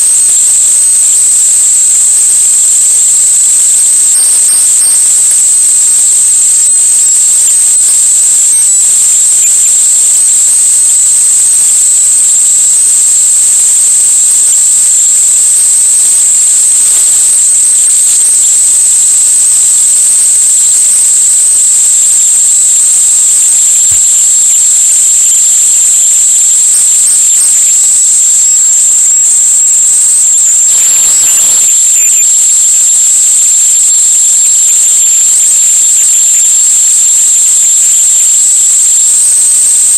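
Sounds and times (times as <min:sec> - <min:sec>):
high-pitched electronic whine: 0:00.0 - 0:39.9.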